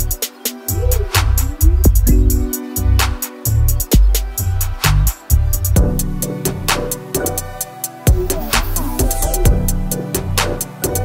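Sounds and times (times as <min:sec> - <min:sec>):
electronic hip-hop beat: 0:00.0 - 0:11.0.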